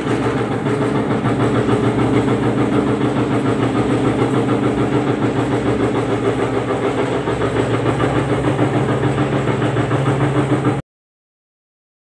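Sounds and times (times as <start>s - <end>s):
paddle mixer humming and pulsing: 0.0s - 10.8s.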